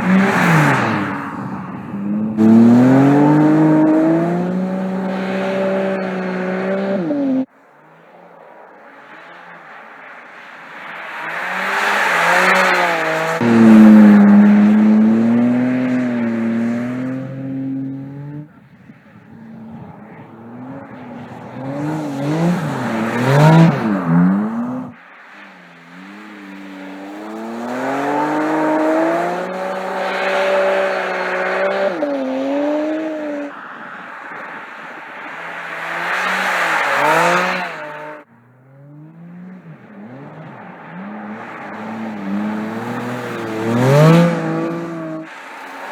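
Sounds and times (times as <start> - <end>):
car exhaust revving: 0.0 - 7.5, 11.4 - 33.4, 35.2 - 45.3.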